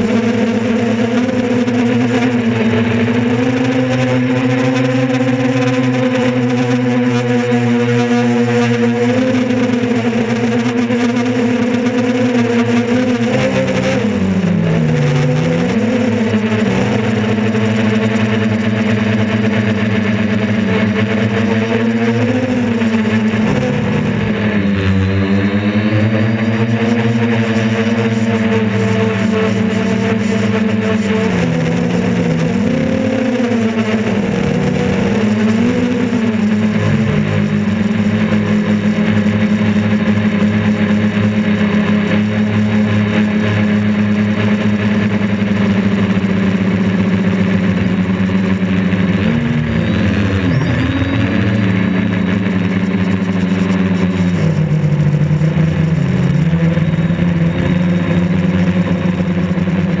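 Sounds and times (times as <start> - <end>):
quadcopter motors whining: 0.0 - 60.0.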